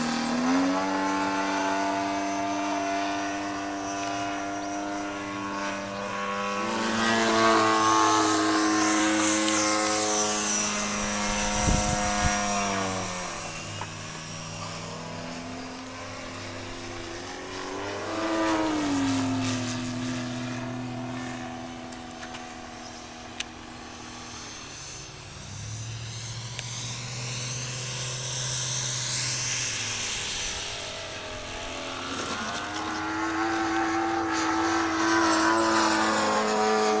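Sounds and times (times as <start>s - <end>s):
model airplane propeller whine: 0.0s - 37.0s.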